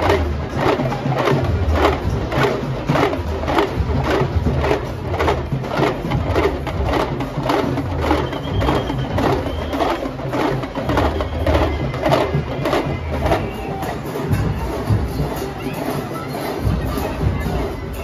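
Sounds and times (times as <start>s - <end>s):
hand drums beaten with sticks: 0.0s - 18.0s.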